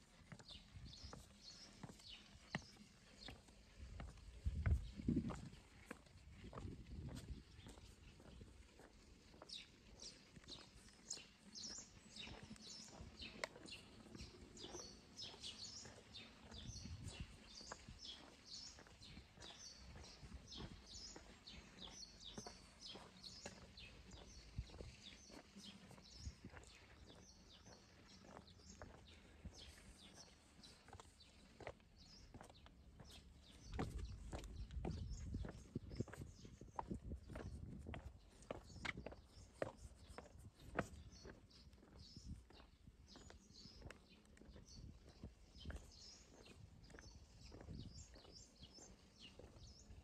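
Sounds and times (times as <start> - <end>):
footsteps on stone paving: 0.0 - 50.0
small birds chirping: 0.0 - 50.0.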